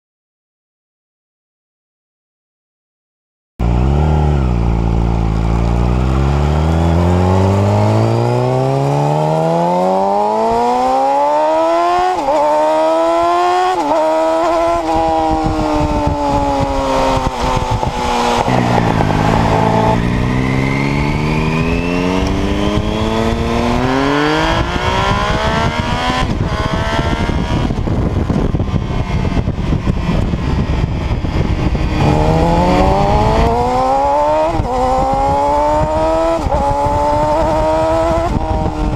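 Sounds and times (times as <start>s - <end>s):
high-revving engine accelerating: 3.6s - 38.9s.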